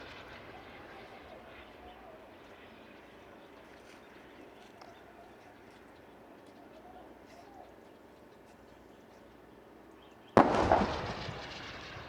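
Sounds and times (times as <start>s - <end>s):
faint distant voices: 0.0s - 12.0s
faint outdoor background noise: 0.0s - 12.0s.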